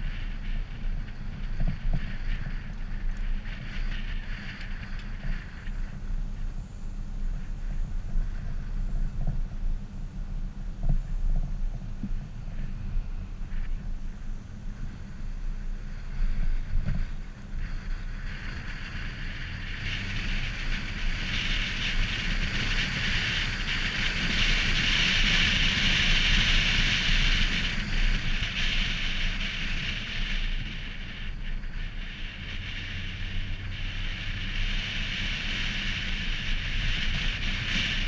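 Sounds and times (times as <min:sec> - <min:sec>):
moving car rumble: 0:00.0 - 0:38.0
wind rushing over microphone: 0:00.0 - 0:38.0.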